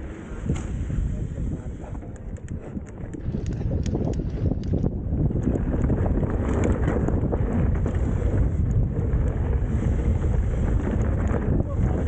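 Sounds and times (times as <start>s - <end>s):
bike knocking and rattling: 0.0s - 12.0s
low rumble: 0.0s - 12.0s
wind buffeting microphone: 0.0s - 12.0s.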